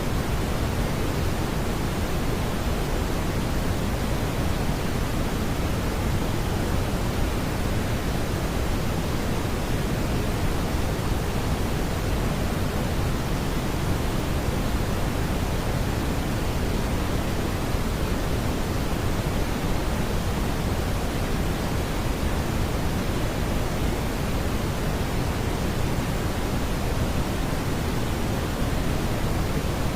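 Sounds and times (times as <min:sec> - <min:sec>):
brown noise hiss: 0:00.0 - 0:29.9.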